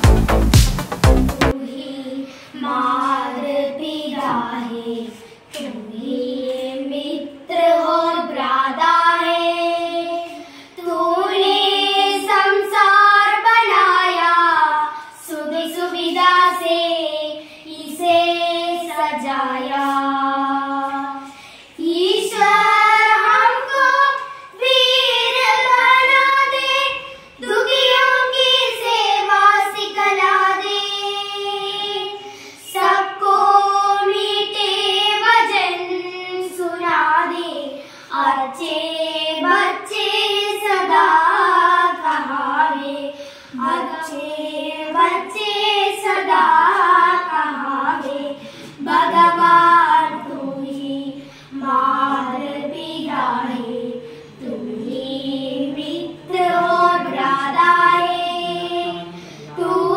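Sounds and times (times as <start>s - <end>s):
children singing into a microphone: 1.4s - 59.9s.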